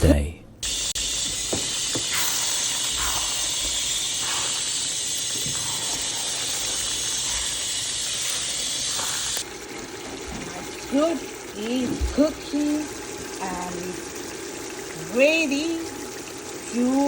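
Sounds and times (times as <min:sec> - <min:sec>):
food cooking hissing: 0:00.6 - 0:17.0.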